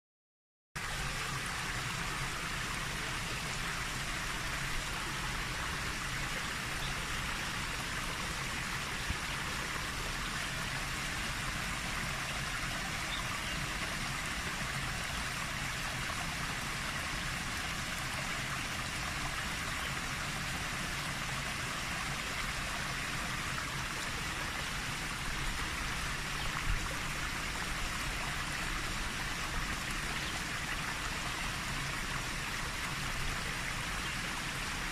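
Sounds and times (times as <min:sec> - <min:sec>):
flowing water rushing: 0:00.8 - 0:34.9.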